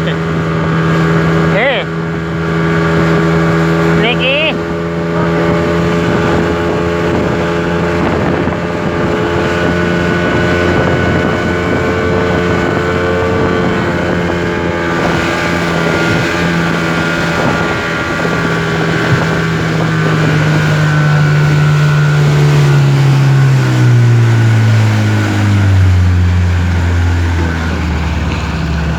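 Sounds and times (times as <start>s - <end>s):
speedboat engine running: 0.0s - 28.9s
wind on microphone: 0.0s - 28.9s.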